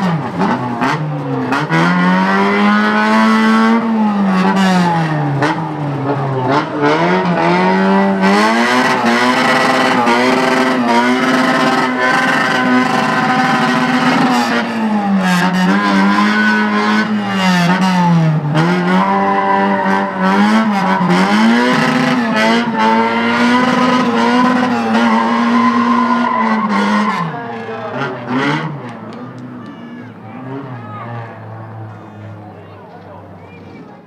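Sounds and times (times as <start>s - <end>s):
racing car engine revving: 0.0s - 33.8s
tyres skidding: 0.0s - 34.0s.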